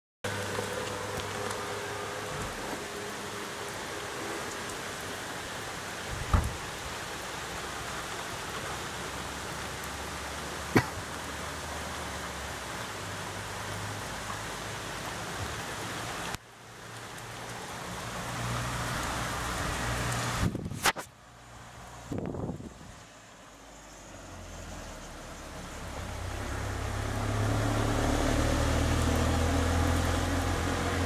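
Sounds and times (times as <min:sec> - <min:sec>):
steady rain hiss: 0:00.3 - 0:31.0.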